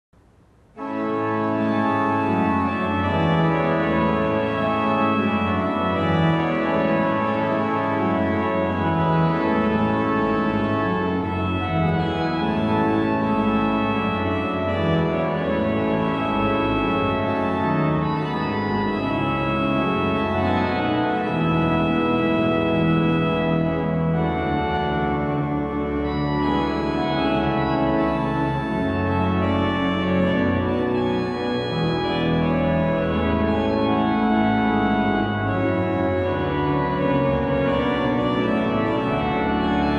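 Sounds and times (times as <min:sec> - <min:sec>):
organ playing sustained chords: 0:00.5 - 0:39.9.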